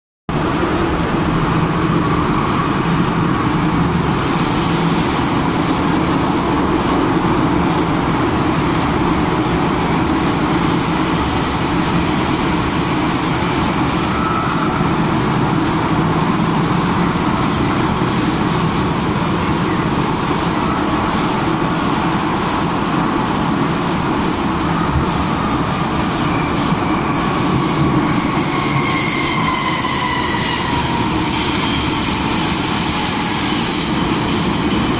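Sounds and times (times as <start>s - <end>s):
train running equipment rush: 0.4s - 34.9s.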